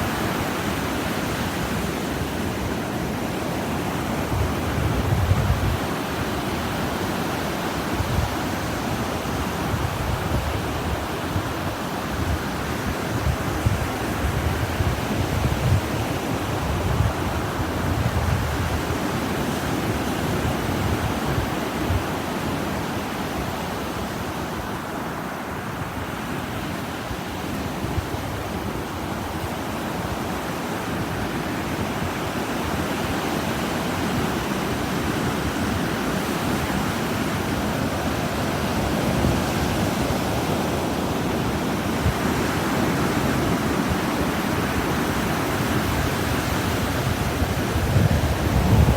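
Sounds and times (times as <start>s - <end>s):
ocean waves on beach: 0.0s - 48.9s.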